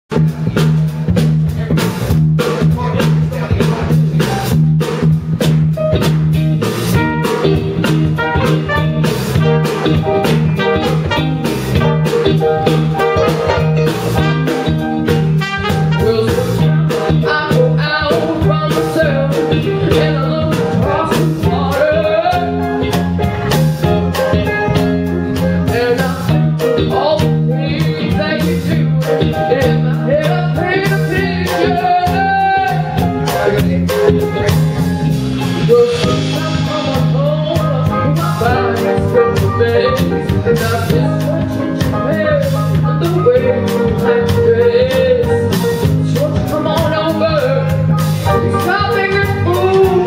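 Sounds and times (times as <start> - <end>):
live rock band playing: 0.1 - 50.0.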